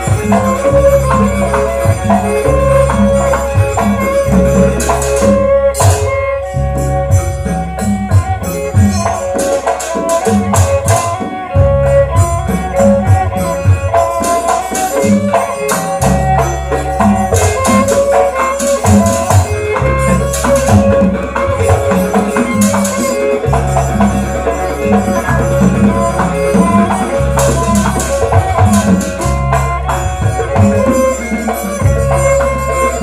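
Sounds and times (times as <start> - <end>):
jingling percussion hits: 0.0 - 11.3, 11.9 - 33.0
ringing pitched notes: 0.0 - 33.0.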